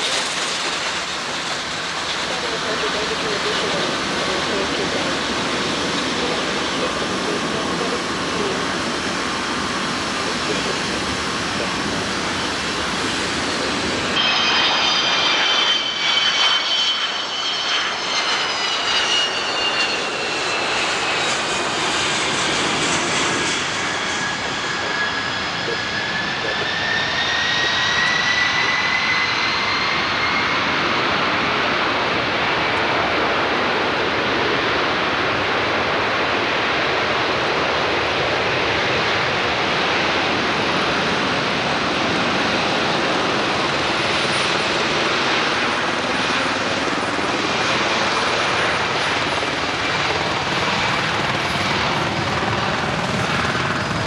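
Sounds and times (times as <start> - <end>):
high engine whine: 0.0 - 54.0
jet engines rushing: 0.0 - 54.0.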